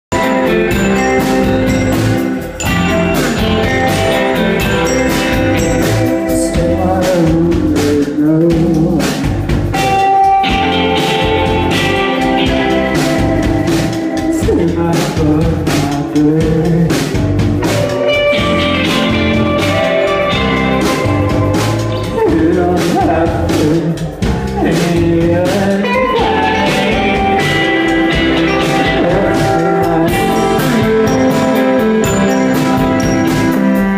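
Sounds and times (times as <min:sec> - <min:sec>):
drum kit beat: 0:00.0 - 0:33.9
live band playing loudly: 0:00.0 - 0:33.9
person singing: 0:00.1 - 0:09.3, 0:10.3 - 0:33.9.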